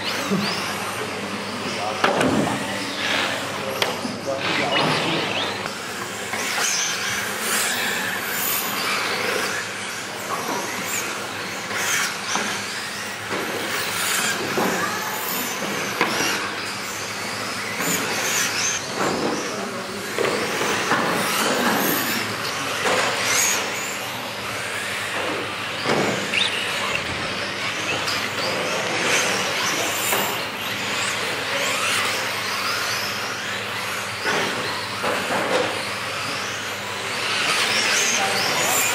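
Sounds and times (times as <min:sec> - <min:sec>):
radio-controlled cars passing: 0:00.0 - 0:38.9.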